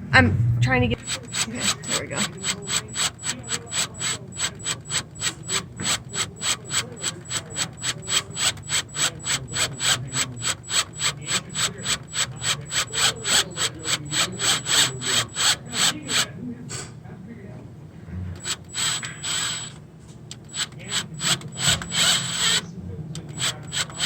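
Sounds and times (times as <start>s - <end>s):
thin constant whine: 0.0s - 24.0s
cordless drill clicking: 1.0s - 16.3s, 18.4s - 22.6s, 23.2s - 24.0s.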